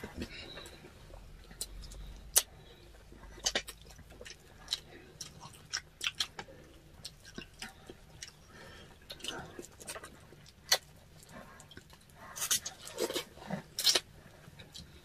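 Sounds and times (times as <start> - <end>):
chewing and lip smacks: 0.0 - 15.0.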